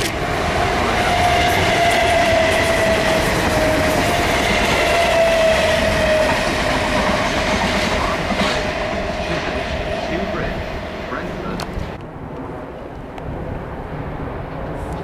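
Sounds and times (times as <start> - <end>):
electric train whine: 0.0 - 15.0
train wheels rumbling on rails: 0.0 - 15.0.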